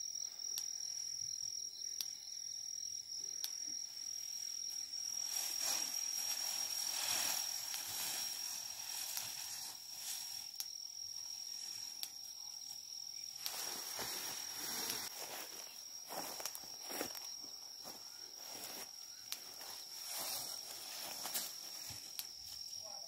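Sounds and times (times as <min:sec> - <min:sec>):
insect trilling: 0:00.0 - 0:23.0
tall grass rustling: 0:03.9 - 0:23.0.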